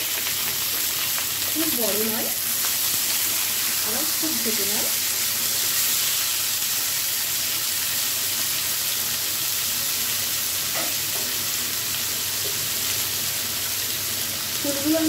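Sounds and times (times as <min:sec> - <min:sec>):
potatoes sizzling in hot oil: 0:00.0 - 0:15.0.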